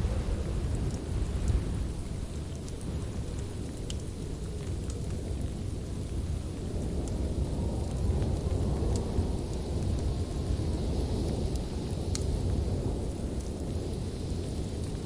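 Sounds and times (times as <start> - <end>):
fire flames rumbling: 0.0 - 15.0.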